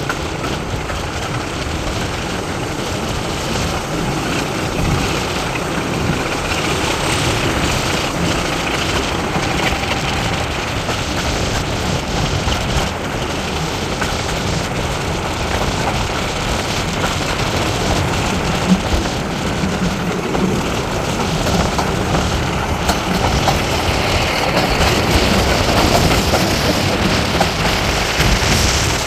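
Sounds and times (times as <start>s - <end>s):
train wheels on rails: 0.0s - 29.0s
wind rushing on microphone: 0.0s - 29.0s.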